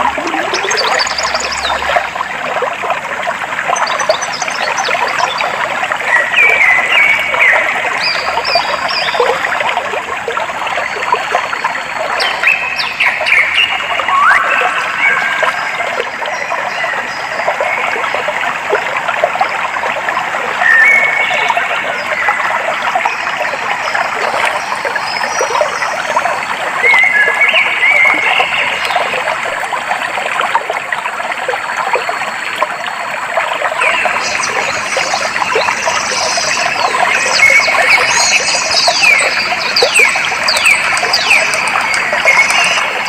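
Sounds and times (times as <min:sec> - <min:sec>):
stream water trickling: 0:00.0 - 0:43.0.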